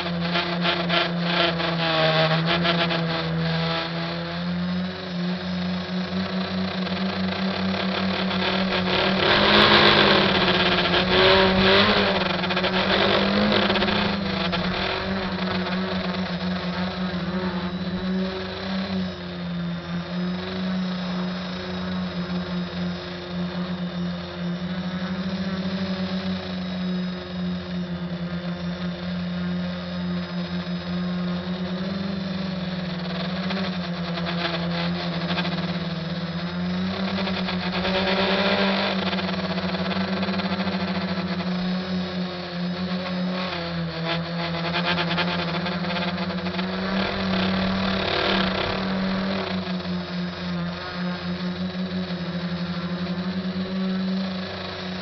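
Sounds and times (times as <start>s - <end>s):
drone motors and propellers droning: 0.0s - 55.0s.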